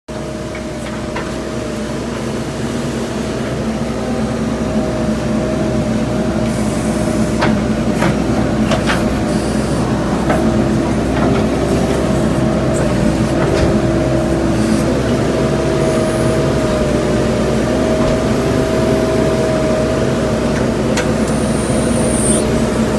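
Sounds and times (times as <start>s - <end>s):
diesel engine running: 0.1s - 22.9s.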